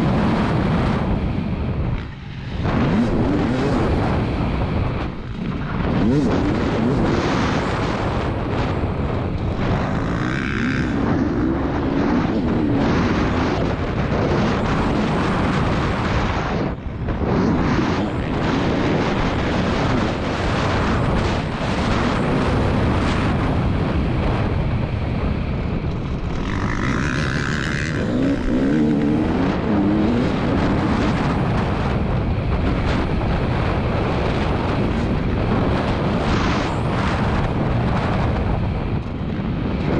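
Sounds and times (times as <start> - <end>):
dirt bike engine revving: 2.0 - 24.4, 25.9 - 37.4.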